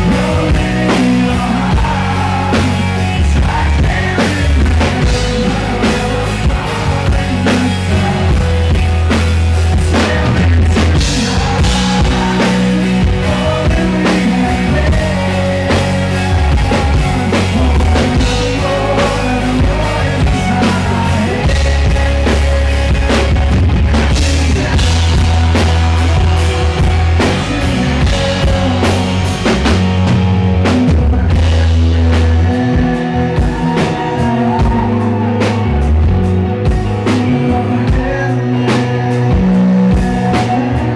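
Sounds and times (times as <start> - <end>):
live rock band playing: 0.0 - 40.9
man singing lead vocal: 0.0 - 40.9.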